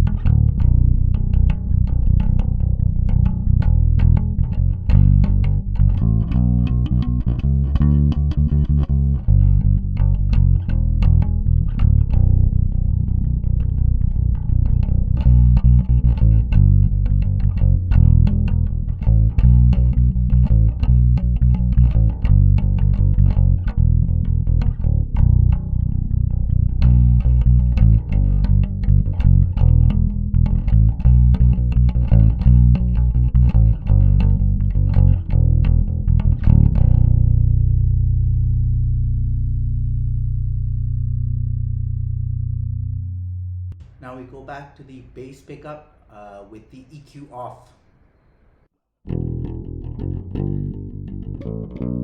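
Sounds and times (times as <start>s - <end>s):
plucked bass guitar riff: 0.0s - 44.0s, 49.1s - 52.0s.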